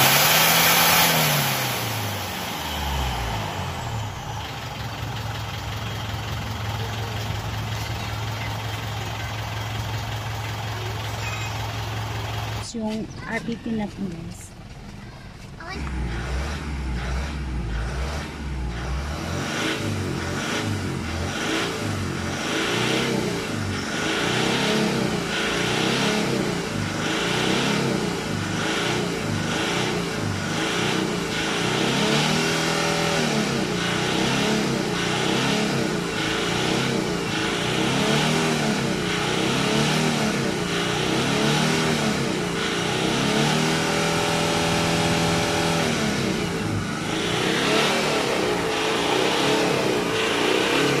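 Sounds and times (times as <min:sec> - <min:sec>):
car engine revving: 0:00.0 - 0:14.8, 0:15.6 - 0:51.0.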